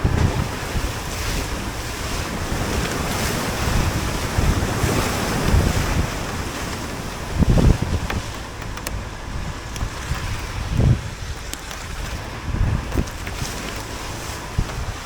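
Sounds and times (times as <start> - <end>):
vehicle driving on rough trail: 0.0 - 15.0
vehicle thumping over bumps: 0.0 - 15.0
wind on microphone: 0.0 - 15.0.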